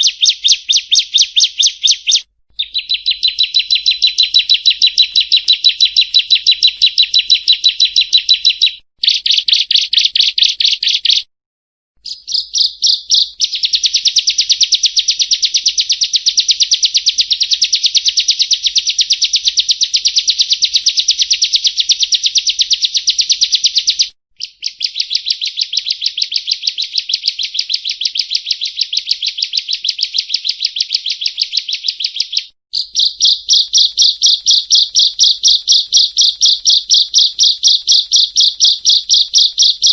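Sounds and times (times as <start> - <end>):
bird singing rapid high chirps: 0.0 - 11.3, 12.0 - 39.9.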